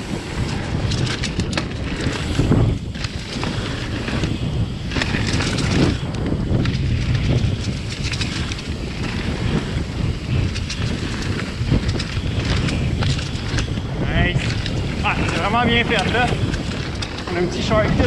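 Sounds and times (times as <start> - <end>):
bike clicks and rattles: 0.0 - 18.0
mountain bike rolling on dirt: 0.0 - 18.0
wind noise on microphone: 0.0 - 18.0.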